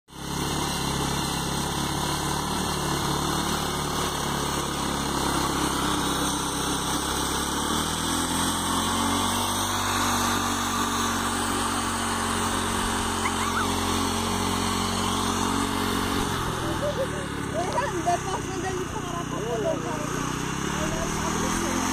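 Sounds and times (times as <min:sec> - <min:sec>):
small tractor engine running: 0:00.1 - 0:21.9
tine dragging through sandy soil: 0:00.1 - 0:21.9.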